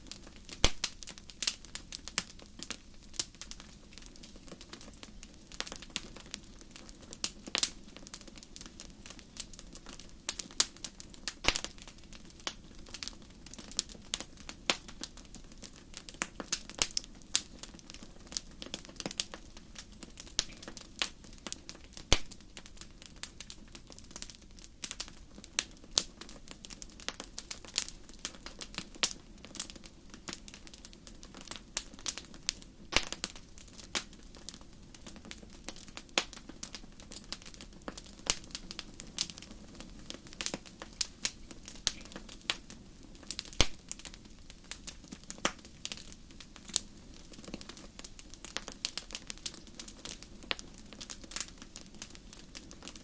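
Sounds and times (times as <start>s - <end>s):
low murmur of flames: 0.0s - 53.0s
wood fire crackling and popping: 0.0s - 53.0s.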